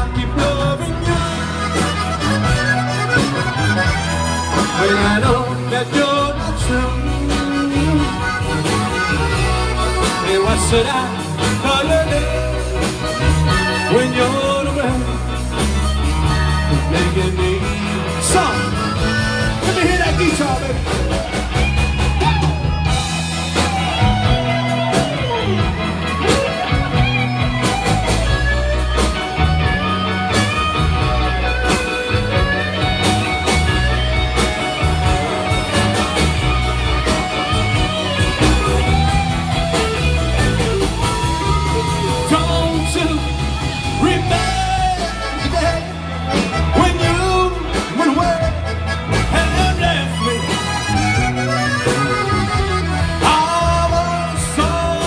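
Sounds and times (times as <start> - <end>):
bass: 0.0 - 55.0
drums: 0.0 - 55.0
electric guitar solo: 1.1 - 55.0.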